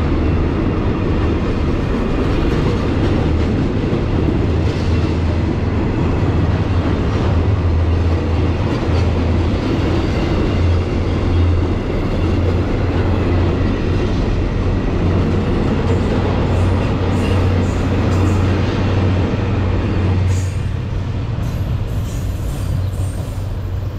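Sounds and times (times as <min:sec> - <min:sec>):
diesel train engine drone: 0:00.0 - 0:23.9.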